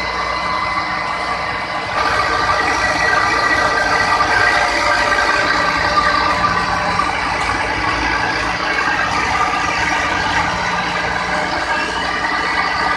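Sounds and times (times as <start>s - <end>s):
steady high whine: 0.0s - 12.9s
tractor and baler machinery din: 0.0s - 12.9s.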